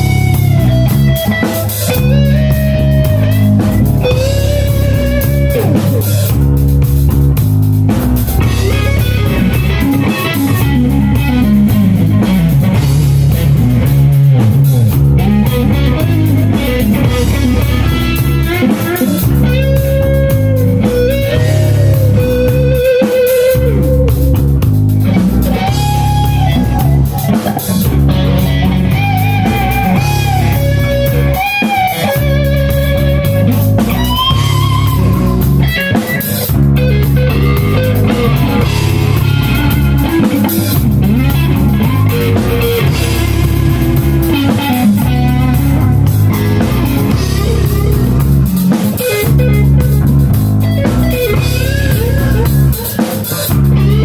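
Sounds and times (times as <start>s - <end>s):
bass guitar: 0.0s - 54.0s
lead electric guitar bending notes: 0.0s - 54.0s.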